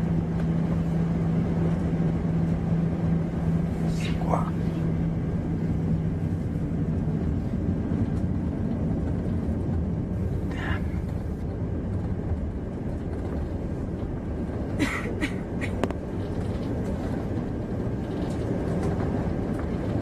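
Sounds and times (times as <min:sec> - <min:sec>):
steady hum: 0:00.0 - 0:16.5
jet engine cabin rumble: 0:00.0 - 0:20.0.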